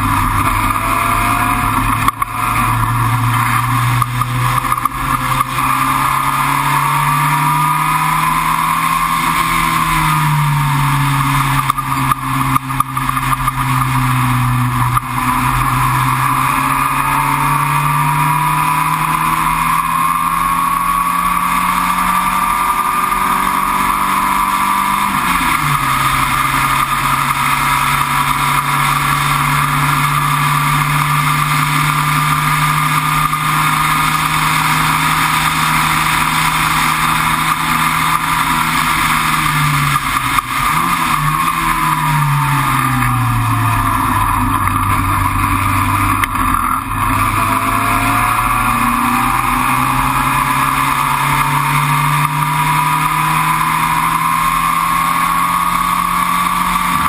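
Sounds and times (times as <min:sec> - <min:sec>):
racing car engine: 0:00.0 - 0:57.0
wind and road noise: 0:00.0 - 0:57.0.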